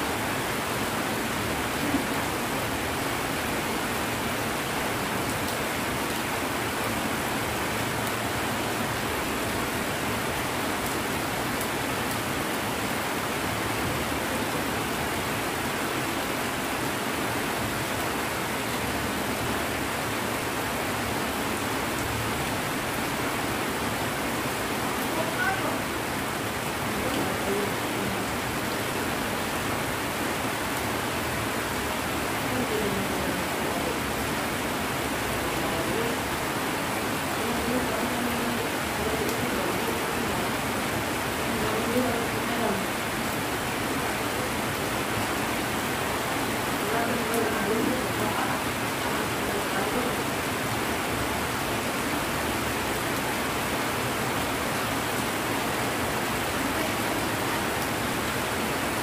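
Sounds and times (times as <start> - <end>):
heavy rain on plants: 0.0 - 59.0.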